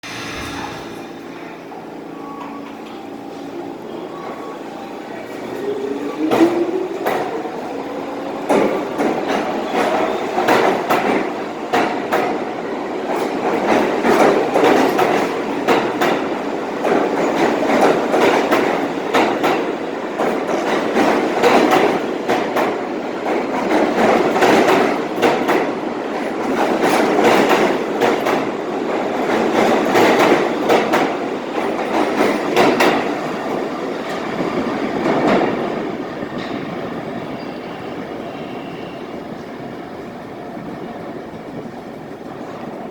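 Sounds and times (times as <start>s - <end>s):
subway train pulling out: 0.0s - 42.9s.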